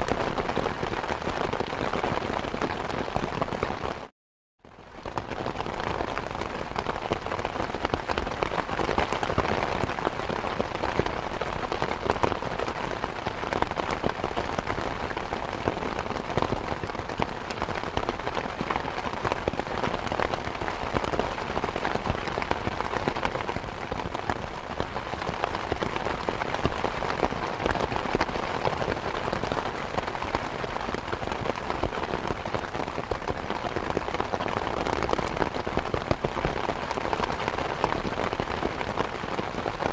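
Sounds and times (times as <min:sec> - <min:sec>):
steady rain falling: 0:00.0 - 0:04.1, 0:04.7 - 0:39.9.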